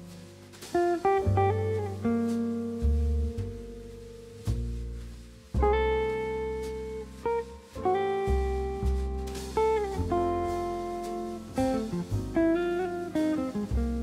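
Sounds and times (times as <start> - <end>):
guitar with sliding notes: 0.0 - 3.4, 5.6 - 14.0
deep bass line: 0.0 - 14.0.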